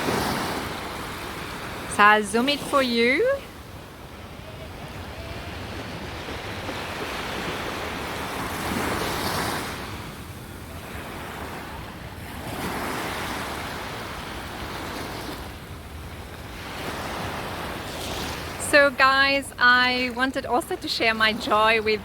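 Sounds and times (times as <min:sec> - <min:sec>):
sea waves breaking on beach: 0:00.0 - 0:22.0.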